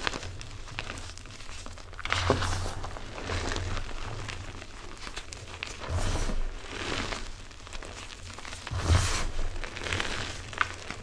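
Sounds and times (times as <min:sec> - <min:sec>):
crunching squeaky powder: 0:00.0 - 0:11.0.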